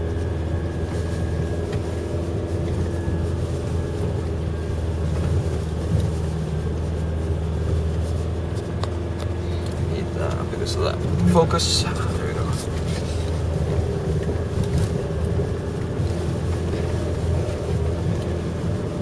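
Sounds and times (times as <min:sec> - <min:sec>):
vehicle engine low hum: 0:00.0 - 0:19.0.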